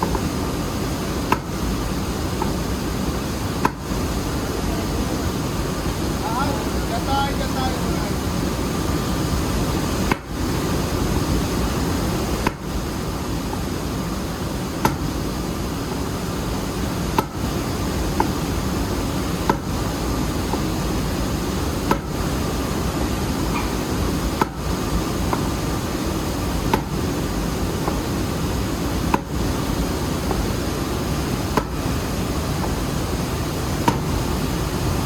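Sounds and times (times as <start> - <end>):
loud steady background noise: 0.0 - 35.0.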